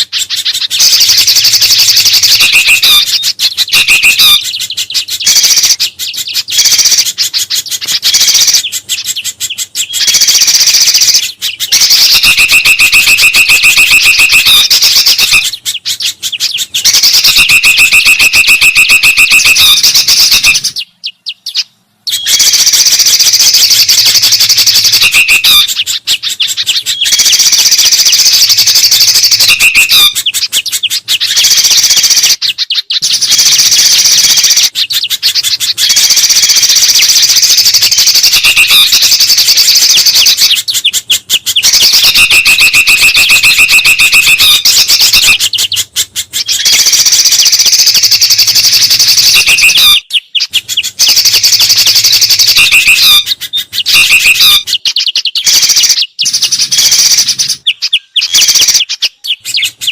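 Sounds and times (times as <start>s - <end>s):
songbirds chattering: 0.0s - 59.9s.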